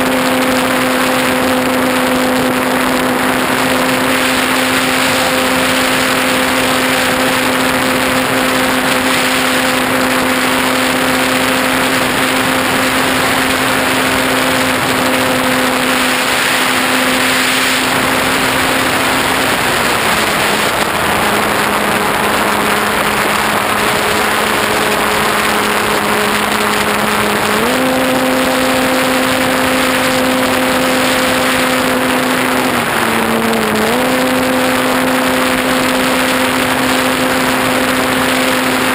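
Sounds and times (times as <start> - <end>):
air rush on microphone: 0.0 - 38.9
model airplane motor buzzing: 0.0 - 38.9.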